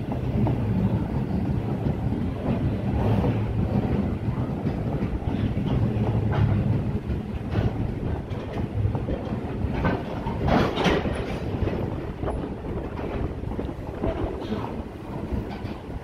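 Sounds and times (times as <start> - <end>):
freight train rumbling past: 0.0 - 16.0
wheels clacking over rail joints: 0.0 - 16.0.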